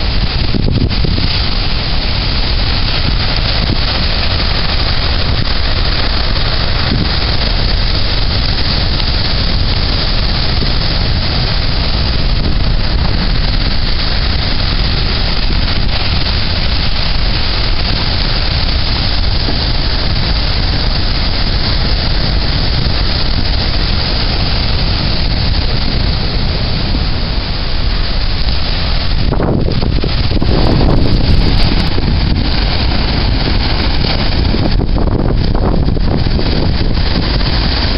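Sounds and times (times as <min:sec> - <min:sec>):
heavy surf: 0:00.0 - 0:37.9
strong wind on microphone: 0:00.0 - 0:37.9.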